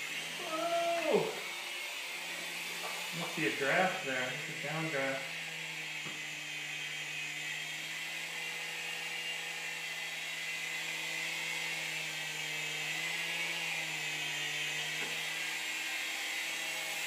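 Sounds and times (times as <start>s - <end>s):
toy helicopter whining buzz: 0.0s - 17.0s.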